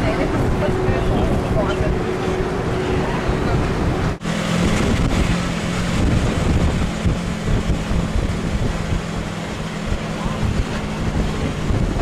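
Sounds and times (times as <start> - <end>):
bus engine humming: 0.0 - 12.0
wind on microphone: 0.0 - 12.0.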